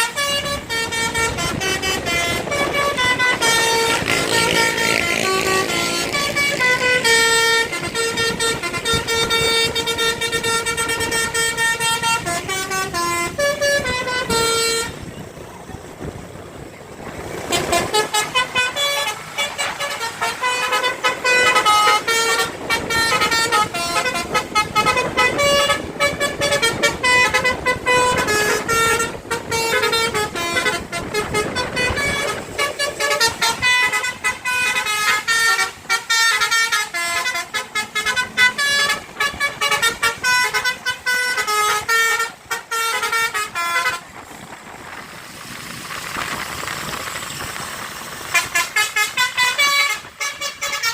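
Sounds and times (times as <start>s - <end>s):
musical bus air horn tune: 0.0s - 15.4s, 17.3s - 44.8s, 48.2s - 50.9s.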